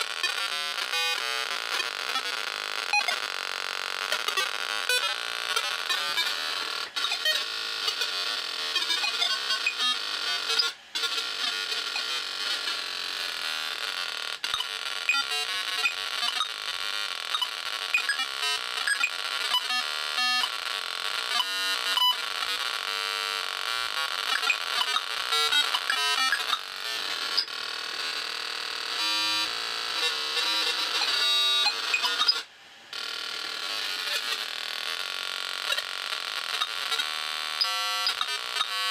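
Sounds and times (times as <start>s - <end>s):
harsh electronic noise from speaker: 0.0s - 38.9s.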